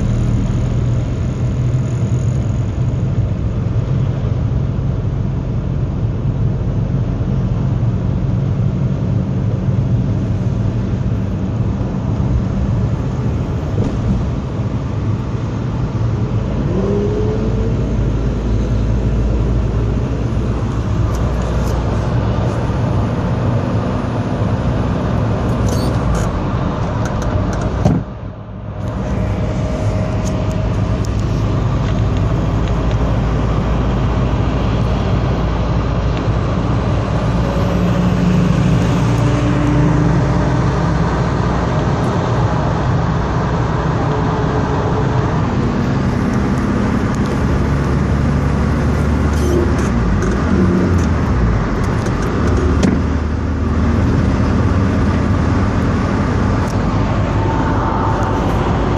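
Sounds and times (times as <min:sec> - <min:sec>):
road and engine noise in car: 0:00.0 - 0:58.9
truck passing alongside: 0:00.0 - 0:58.9.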